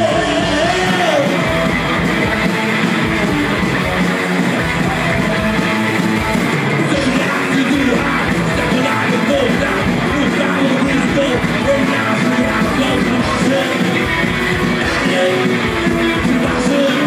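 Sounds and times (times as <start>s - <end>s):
electric guitar: 0.0s - 17.0s
punk rock band playing live: 0.0s - 17.0s.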